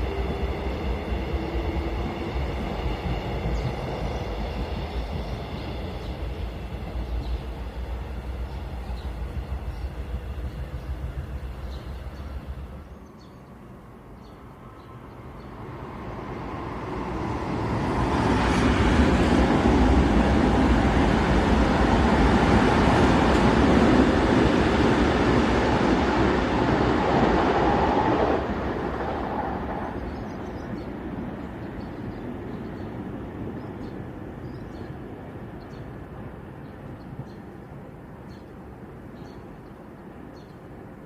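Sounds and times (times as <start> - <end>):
train passing rumble: 0.0 - 41.0.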